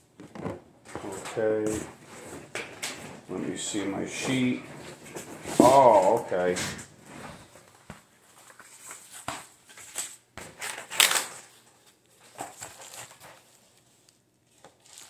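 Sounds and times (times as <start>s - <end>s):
cardboard and bubble wrap rustling: 0.2s - 15.0s.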